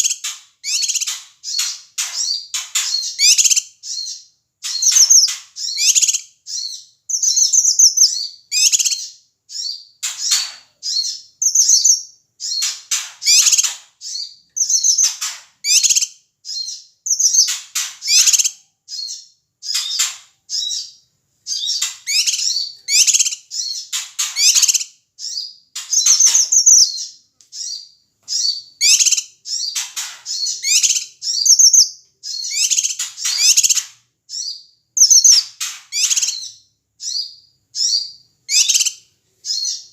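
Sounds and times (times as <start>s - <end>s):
bird chattering calls: 0.0s - 20.9s, 21.5s - 27.8s, 28.4s - 39.8s.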